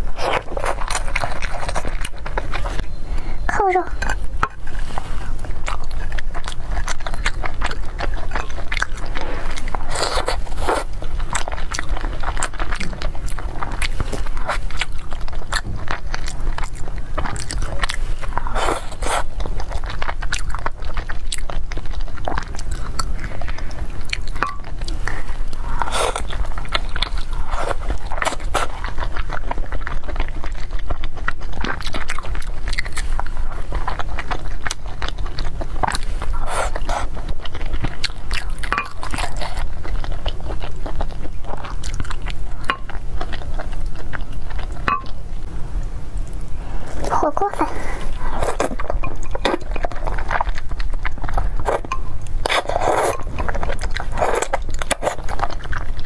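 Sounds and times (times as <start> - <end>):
chewing and wet mouth sounds: 0.0 - 56.0.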